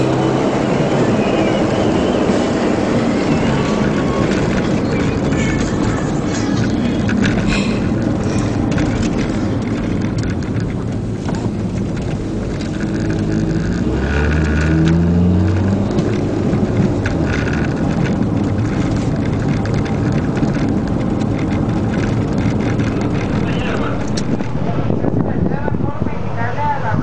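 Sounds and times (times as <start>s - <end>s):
race car engine accelerating: 0.0s - 25.2s
tyre and wind noise: 0.0s - 27.0s.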